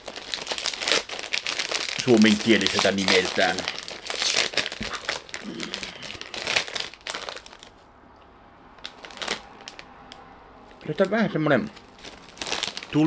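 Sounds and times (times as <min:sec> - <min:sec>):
plastic snack bag crinkling: 0:00.0 - 0:07.8, 0:08.8 - 0:13.0.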